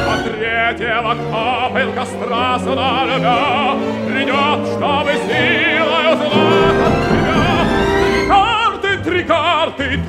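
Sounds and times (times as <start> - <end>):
operatic singing with vibrato: 0.0 - 10.0
orchestra playing: 0.0 - 10.0.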